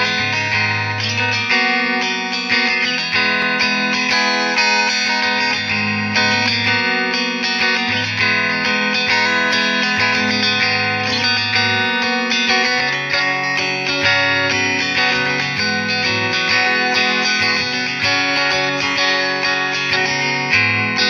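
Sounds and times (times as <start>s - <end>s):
electric guitar strummed chords: 0.0s - 21.0s.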